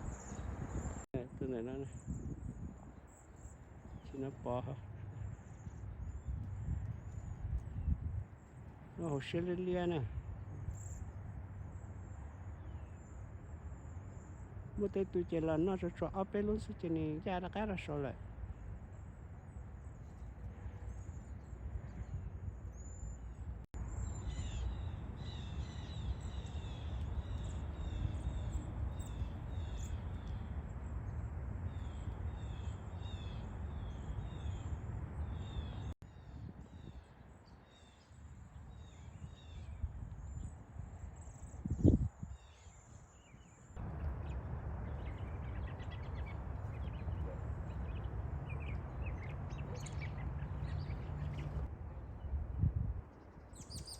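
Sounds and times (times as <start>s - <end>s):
small birds chirping: 0.0s - 31.0s, 31.7s - 52.3s, 53.2s - 53.9s.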